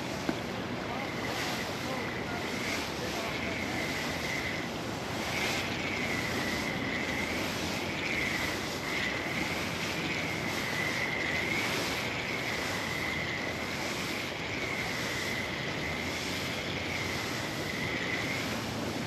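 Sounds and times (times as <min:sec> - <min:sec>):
faint wavering high whine: 0:00.0 - 0:19.0
river water flowing: 0:00.0 - 0:19.0
wind on microphone: 0:00.0 - 0:19.0.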